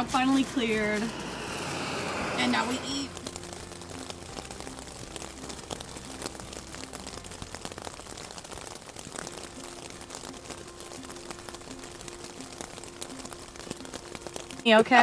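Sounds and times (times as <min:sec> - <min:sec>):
rain pattering on a tent: 0:00.0 - 0:15.0.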